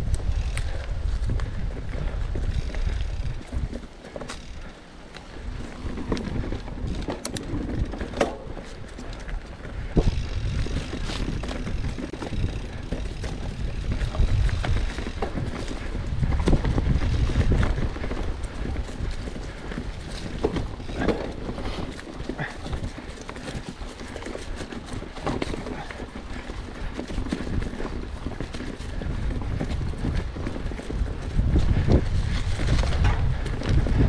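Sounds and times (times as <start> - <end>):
bike clicks and rattles: 0.0 - 34.0
bike tyres rolling on dirt: 0.0 - 34.0.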